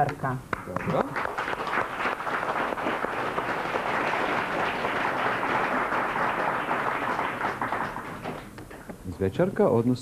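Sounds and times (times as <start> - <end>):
audience applauding: 0.6 - 8.9.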